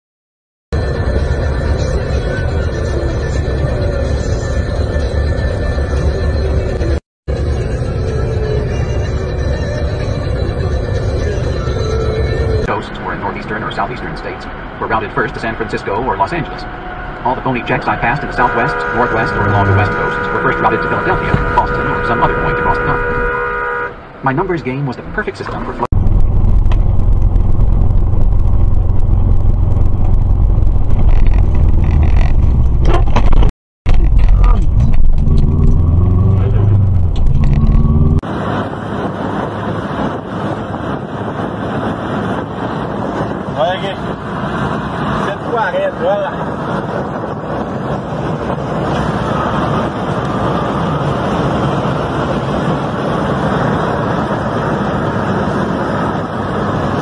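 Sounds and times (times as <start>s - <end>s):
car engine and road noise: 0.7s - 57.0s.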